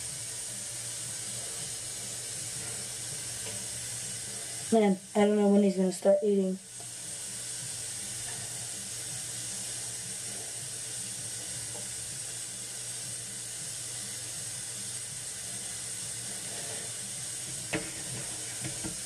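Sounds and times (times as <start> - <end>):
steady hissing noise: 0.0 - 19.0.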